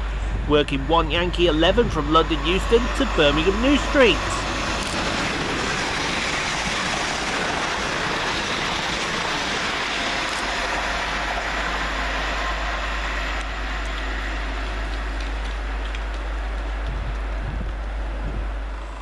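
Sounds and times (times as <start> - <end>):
low hum: 0.0 - 19.0
train wheel and rail noise: 0.0 - 19.0.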